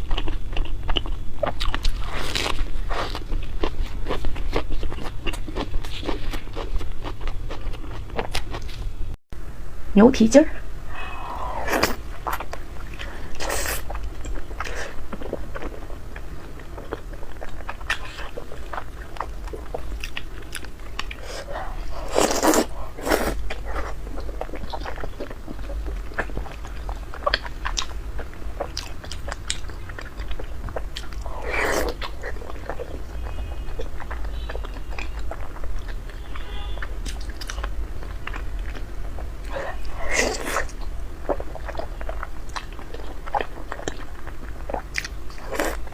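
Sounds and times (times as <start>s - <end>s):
chewing and biting food: 0.0s - 8.8s, 11.6s - 45.9s.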